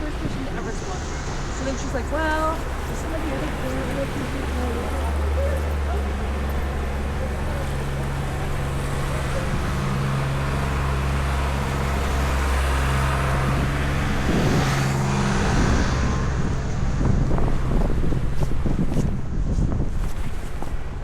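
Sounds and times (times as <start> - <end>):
vehicle passing: 0.0 - 19.4
large vehicle engine running: 0.0 - 21.0
street traffic: 0.0 - 21.0.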